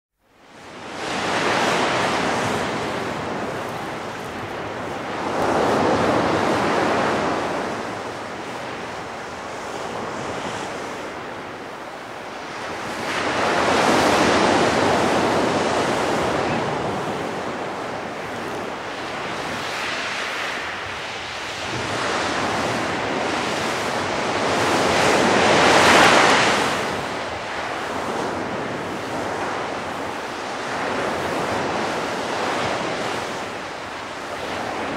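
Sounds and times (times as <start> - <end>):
waves washing onto beach: 0.4 - 34.9
wind on microphone: 0.6 - 34.9.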